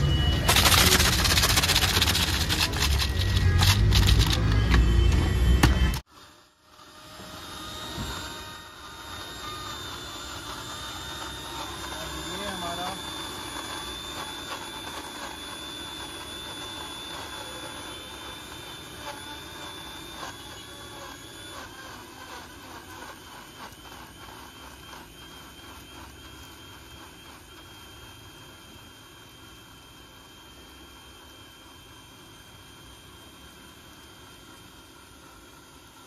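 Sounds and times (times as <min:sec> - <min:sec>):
mixer grinder motor whining: 0:00.0 - 0:36.0.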